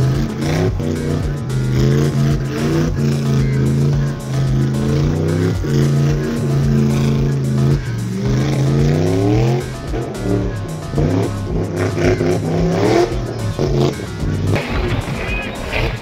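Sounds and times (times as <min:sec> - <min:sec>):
background music with a beat: 0:00.0 - 0:16.0
car engine revving: 0:00.0 - 0:16.0.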